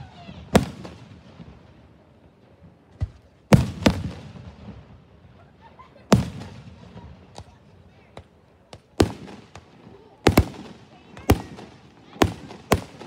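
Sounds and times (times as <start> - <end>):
fireworks booming: 0.0 - 7.6, 8.2 - 13.0.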